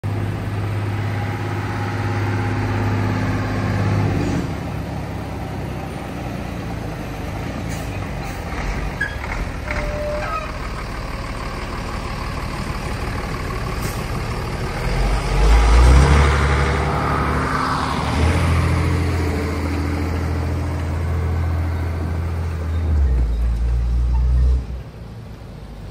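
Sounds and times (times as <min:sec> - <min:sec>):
diesel truck engine drone: 0:00.0 - 0:25.9.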